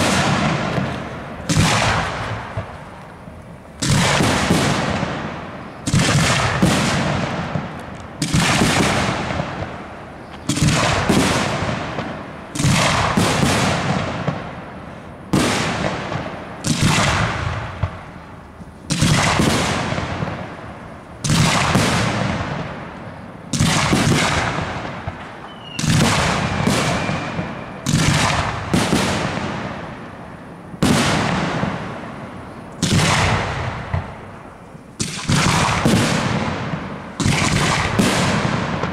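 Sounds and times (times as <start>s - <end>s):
fireworks bursting with bangs: 0.0s - 38.9s.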